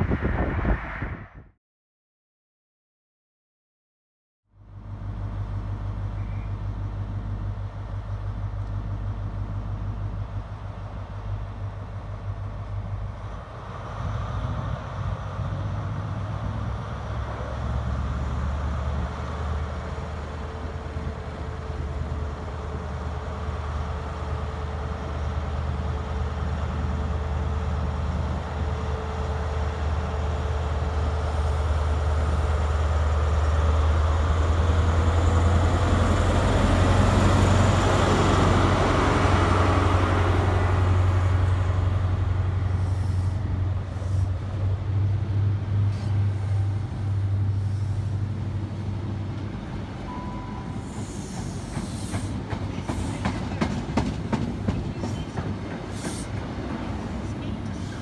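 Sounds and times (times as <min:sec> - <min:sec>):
train diesel engine rumble: 0:04.6 - 0:58.0
train coaches rolling by: 0:05.0 - 0:58.0.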